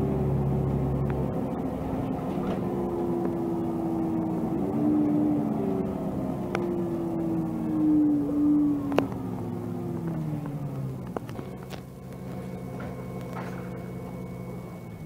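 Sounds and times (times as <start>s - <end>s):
bus engine whine: 0.0s - 15.0s
road noise: 0.0s - 15.0s.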